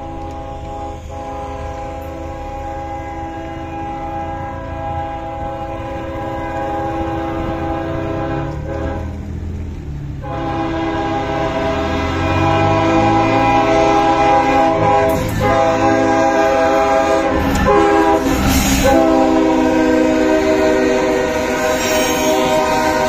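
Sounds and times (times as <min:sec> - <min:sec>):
locomotive air horn: 0:00.0 - 0:09.4, 0:10.2 - 0:23.0
low rumble of train: 0:00.0 - 0:23.0.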